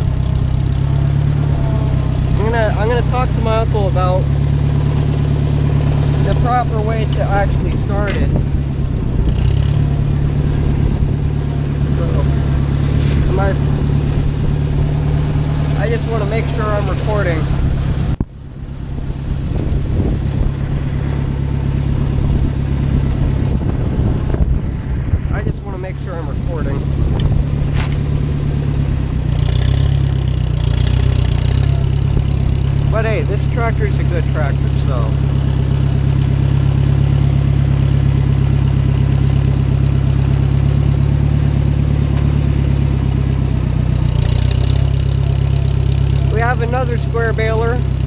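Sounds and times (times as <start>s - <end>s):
tractor engine droning: 0.0s - 48.0s.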